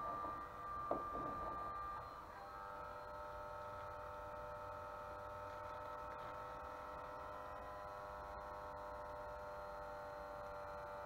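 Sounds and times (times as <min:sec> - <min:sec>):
heat gun fan whine: 0:00.0 - 0:11.0.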